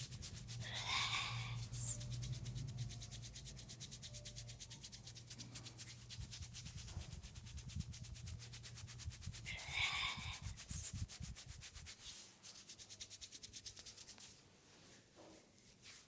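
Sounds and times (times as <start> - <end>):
hands rubbing oiled skin: 0.0 - 14.4.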